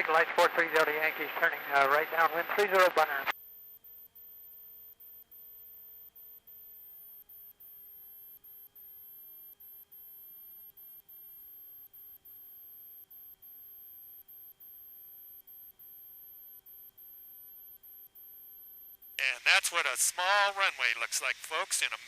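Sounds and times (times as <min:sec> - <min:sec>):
airplane cockpit whine: 0:00.0 - 0:03.4, 0:04.0 - 0:22.0.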